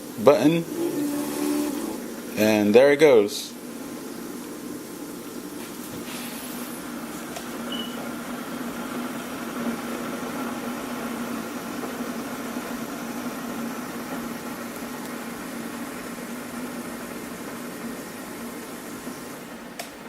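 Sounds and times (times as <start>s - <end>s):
coffee maker pump humming: 0.0s - 20.0s.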